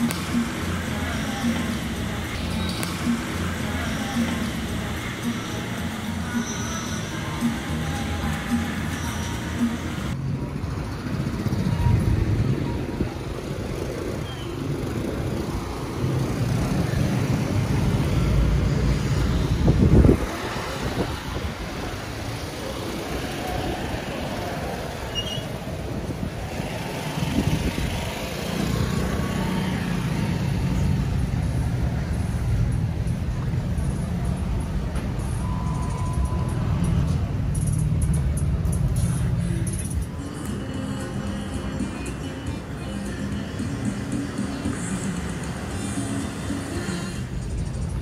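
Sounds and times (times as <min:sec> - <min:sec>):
cars passing: 0:00.0 - 0:48.0
motor scooters passing: 0:00.0 - 0:48.0.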